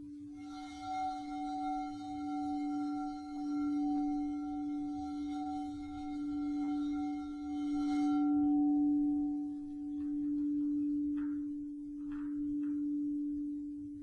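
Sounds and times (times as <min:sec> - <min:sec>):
singing bowl ringing: 0:00.0 - 0:14.0.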